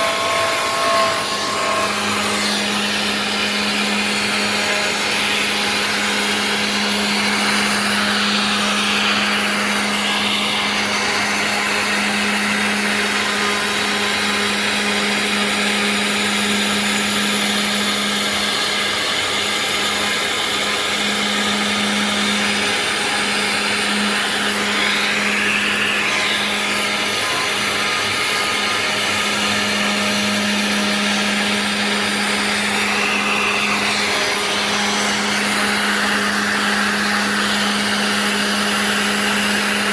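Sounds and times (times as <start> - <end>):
cutting noise: 0.0 - 39.9
router spindle motor hum: 0.0 - 39.9.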